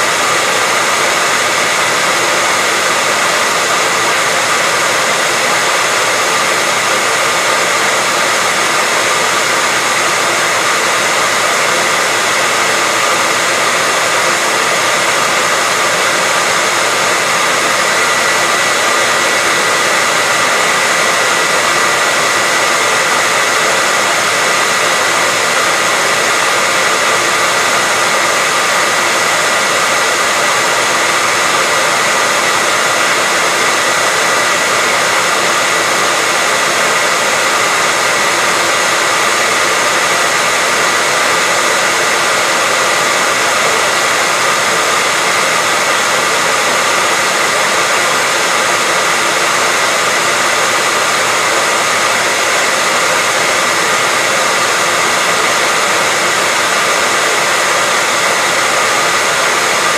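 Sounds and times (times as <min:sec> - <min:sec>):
hairdryer running: 0:00.0 - 0:59.9.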